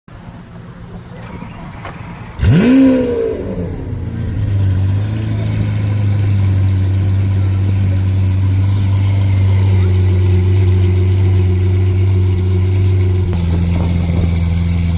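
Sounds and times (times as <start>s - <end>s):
engine idling: 1.1s - 14.9s
car engine starting and revving: 1.2s - 14.9s.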